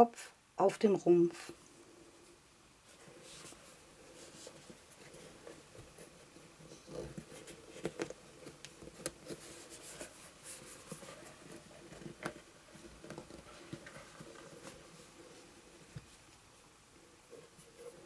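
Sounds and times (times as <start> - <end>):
soft rubbing of vinyl doll: 1.3 - 18.0.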